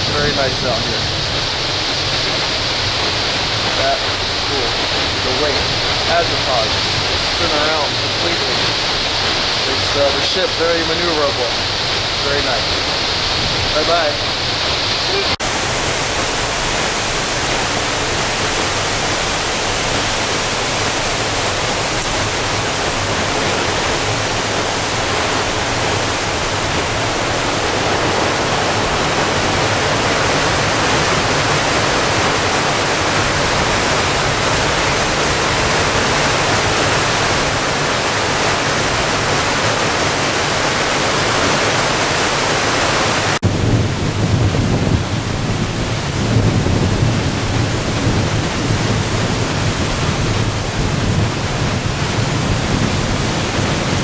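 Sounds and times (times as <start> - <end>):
steady rushing noise: 0.0 - 54.0
wind buffeting microphone: 0.0 - 54.0.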